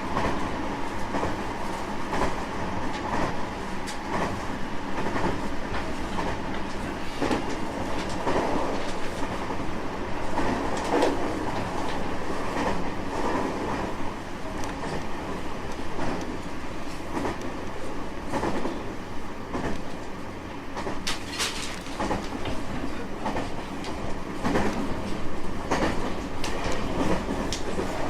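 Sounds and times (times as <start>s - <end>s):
rail joints clacking: 0.0s - 28.0s
train wheels rumbling on rail: 0.0s - 28.0s.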